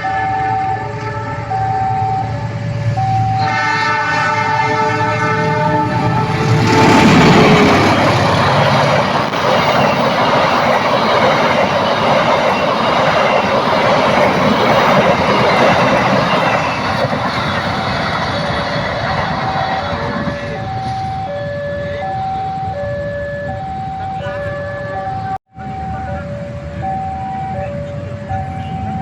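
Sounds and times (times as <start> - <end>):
passenger train passing at speed: 0.0 - 29.0.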